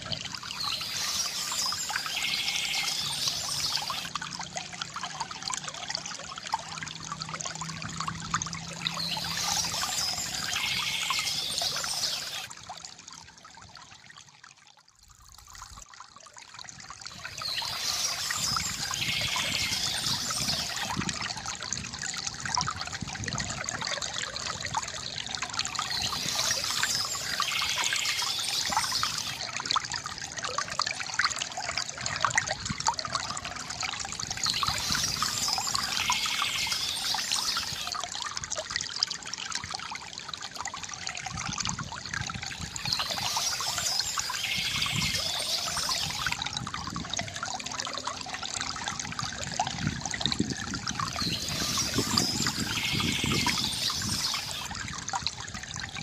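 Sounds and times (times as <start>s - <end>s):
water trickling from bamboo fountain: 0.0s - 56.0s.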